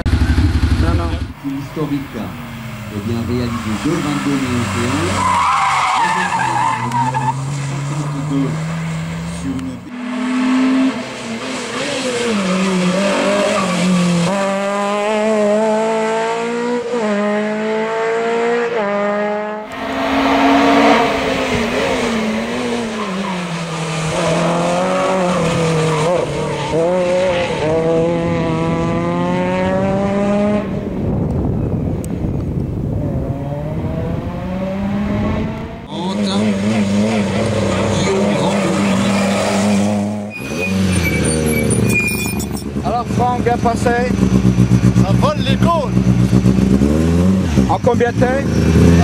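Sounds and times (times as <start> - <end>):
car engine revving hard: 0.0 - 31.1, 33.0 - 49.0.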